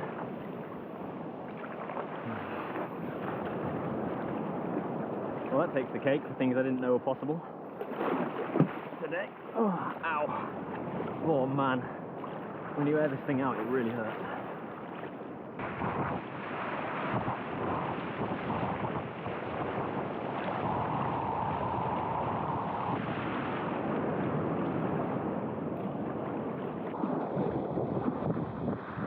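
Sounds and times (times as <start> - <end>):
ocean surf: 0.0 - 29.0
wind buffeting microphone: 0.0 - 29.0.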